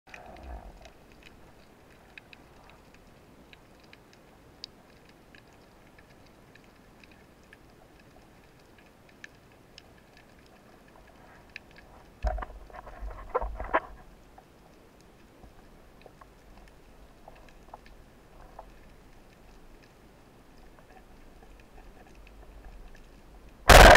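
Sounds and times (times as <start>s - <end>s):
faint underwater clicks and crackles: 0.1s - 23.9s
low hiss: 0.1s - 23.9s.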